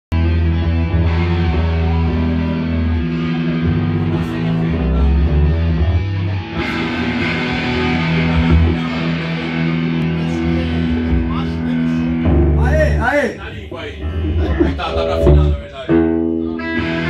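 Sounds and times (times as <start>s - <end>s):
rock band playing: 0.1s - 17.0s.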